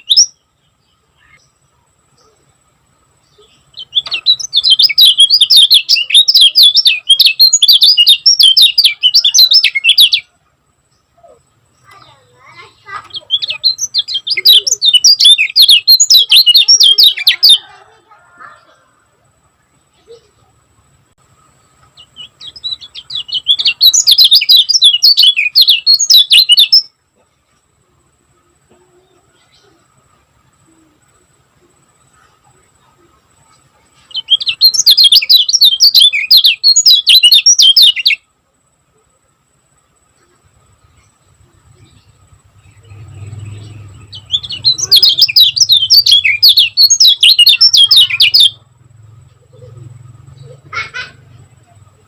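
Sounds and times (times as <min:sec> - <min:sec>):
bird singing high chirps: 0:00.0 - 0:18.7, 0:21.1 - 0:27.0, 0:28.4 - 0:38.4, 0:40.2 - 0:52.0.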